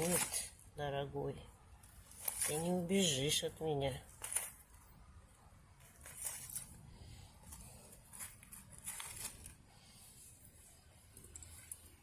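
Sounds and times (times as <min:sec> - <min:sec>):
hands rustling plants: 0:00.0 - 0:00.8, 0:01.7 - 0:12.0.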